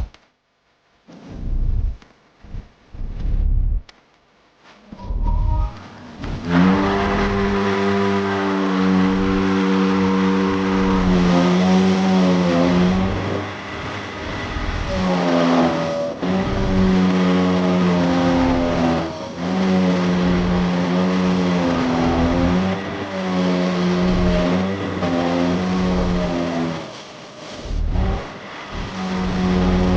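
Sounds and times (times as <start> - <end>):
motor humming: 1.3 - 3.9, 5.0 - 29.9.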